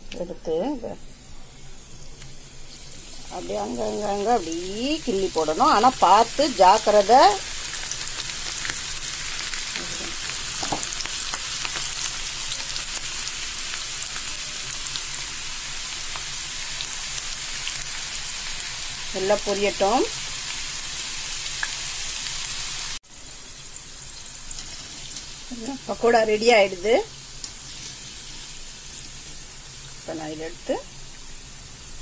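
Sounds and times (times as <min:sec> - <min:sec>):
fritters sizzling in oil: 0:00.0 - 0:32.0.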